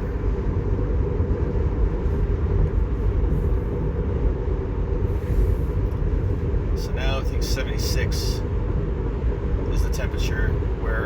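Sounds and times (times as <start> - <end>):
car cabin low rumble: 0.0 - 11.0.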